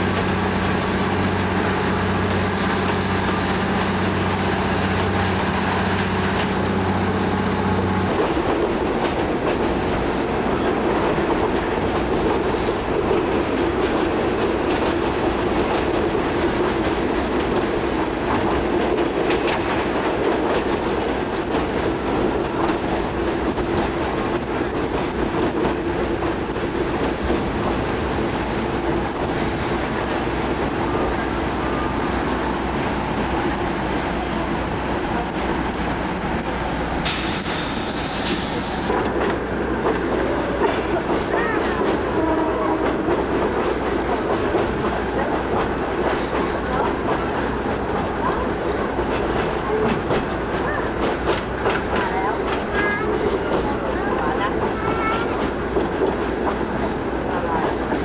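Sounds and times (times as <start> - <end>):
train wheels and engine rumble: 0.0 - 58.0
clickety-clack of wheels: 1.4 - 7.0, 8.0 - 31.2, 37.0 - 58.0.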